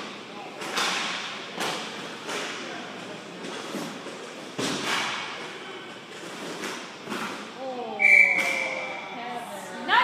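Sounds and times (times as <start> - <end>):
rink noise from skating: 0.6 - 8.8.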